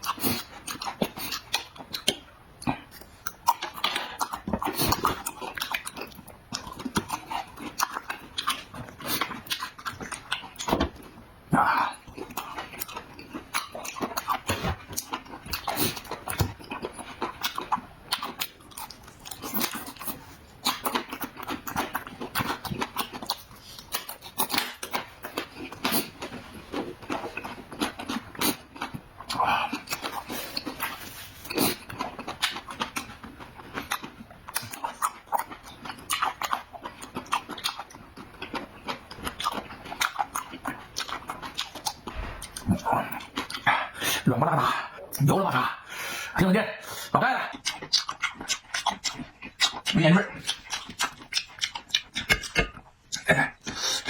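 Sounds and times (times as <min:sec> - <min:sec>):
person chewing and smacking food: 0:00.0 - 0:54.0.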